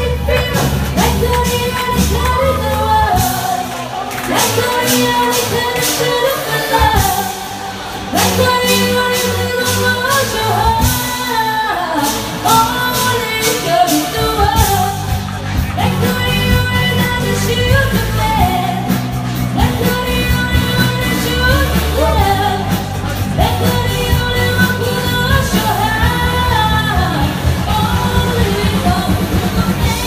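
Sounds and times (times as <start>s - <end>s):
band playing with beat: 0.0s - 30.0s
person singing pop song: 0.0s - 30.0s.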